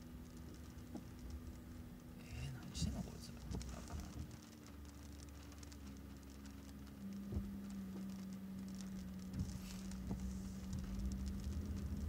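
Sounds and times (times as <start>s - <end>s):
light rain pattering: 0.0s - 12.0s
low hum and rumble: 0.0s - 12.0s.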